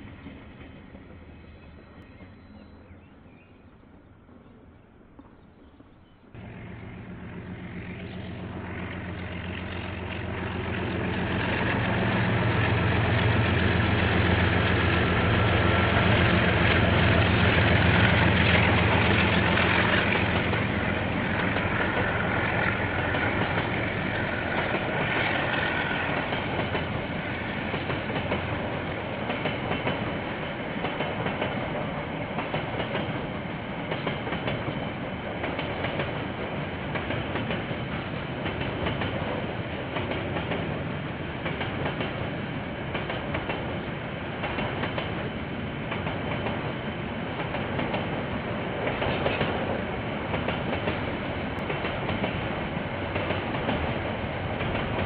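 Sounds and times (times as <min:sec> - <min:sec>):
locomotive engine hum: 0:00.0 - 0:55.0.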